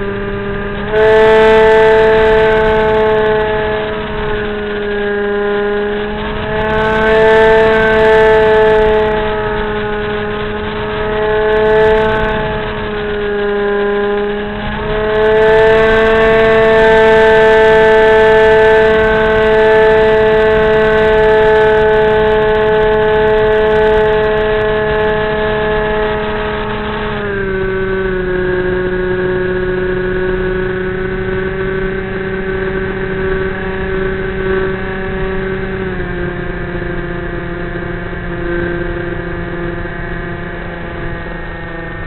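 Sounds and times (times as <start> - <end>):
electric motor and propeller whining: 0.0 - 42.0.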